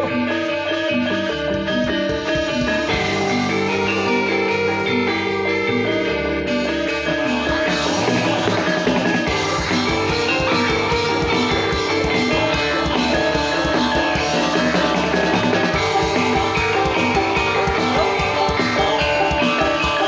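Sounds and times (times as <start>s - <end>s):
ringing metallophone notes: 0.0s - 20.0s
fast drum beat: 1.3s - 5.4s, 7.3s - 20.0s.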